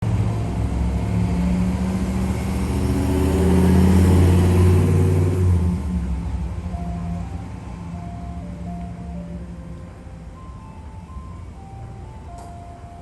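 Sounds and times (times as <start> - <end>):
truck engine passing: 0.0 - 13.0.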